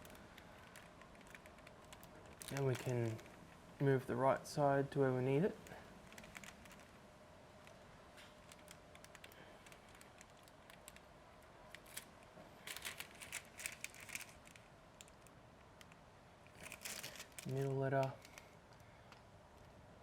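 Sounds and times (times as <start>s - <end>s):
sticker backing crinkling and ticks: 0.0s - 3.8s, 5.0s - 19.8s.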